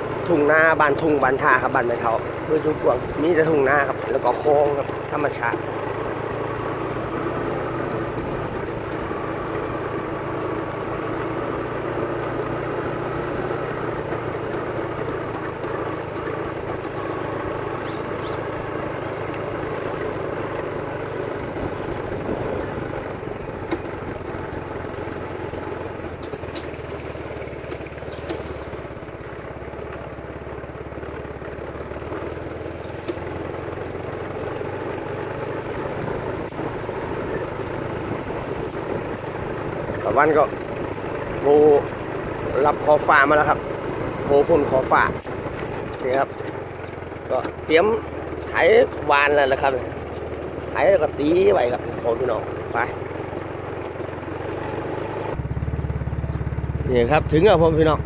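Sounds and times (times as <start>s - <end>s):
small vehicle engine running: 0.0s - 58.0s.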